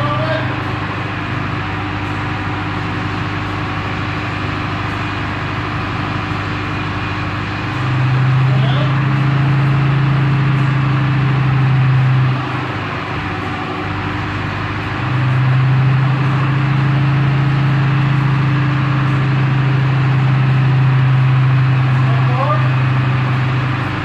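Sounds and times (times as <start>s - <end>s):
forklift engine humming: 0.0s - 24.0s.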